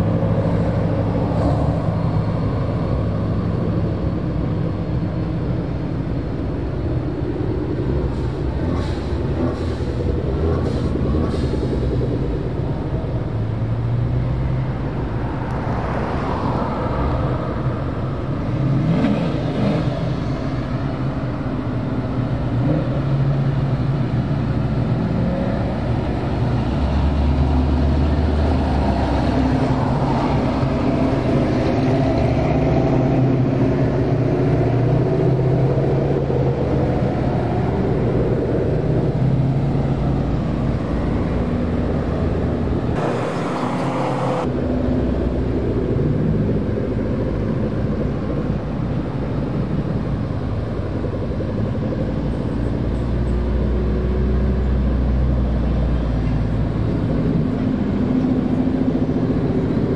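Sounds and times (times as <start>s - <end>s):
cars driving past: 0.0s - 59.9s.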